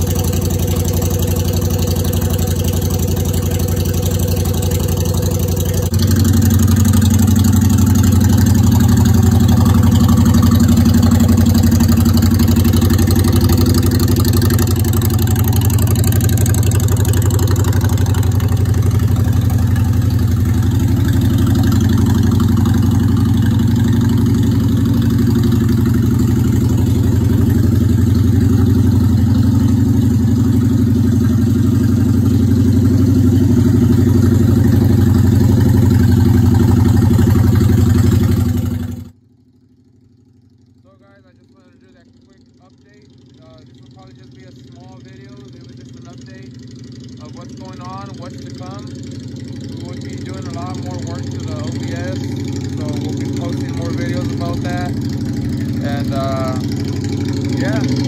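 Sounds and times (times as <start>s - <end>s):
v-twin motorcycle engine idling: 0.0s - 58.0s.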